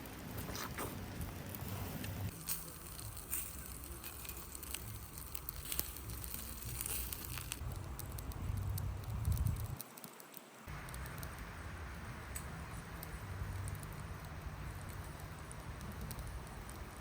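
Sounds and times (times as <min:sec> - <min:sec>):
steady low rumble: 0:00.0 - 0:09.8, 0:10.7 - 0:17.0
fire crackling and popping: 0:00.0 - 0:17.0.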